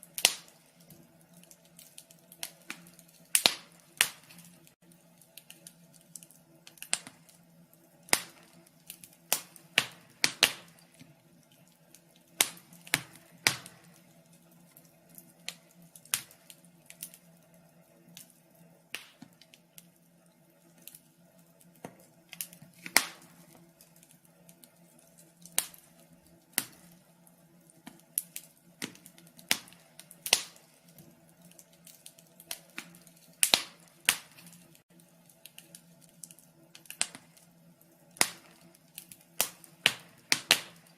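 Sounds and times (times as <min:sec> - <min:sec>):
fire crackling: 0:00.0 - 0:40.9.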